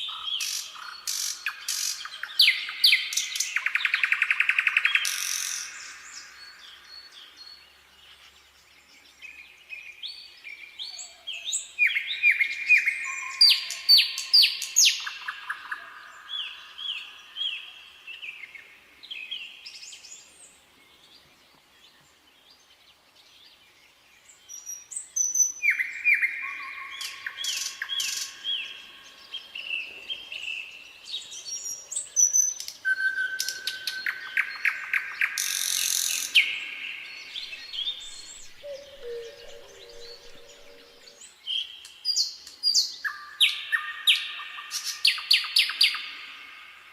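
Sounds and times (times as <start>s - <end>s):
nightingale singing: 0.0s - 22.4s, 23.4s - 46.9s.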